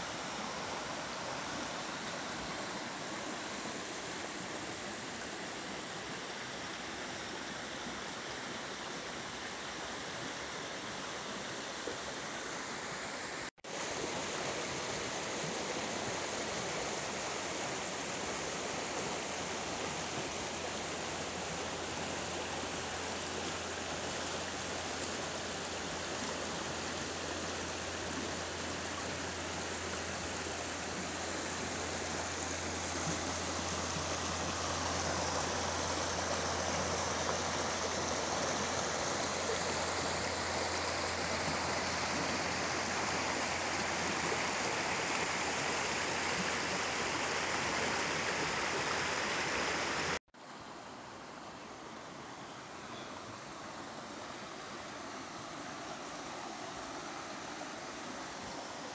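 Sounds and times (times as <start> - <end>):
river rushing over rocks: 0.0 - 58.9.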